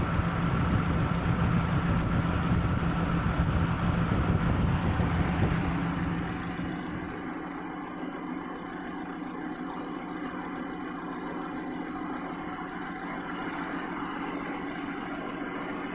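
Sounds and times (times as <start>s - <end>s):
petrol engine running steadily: 0.0s - 15.9s.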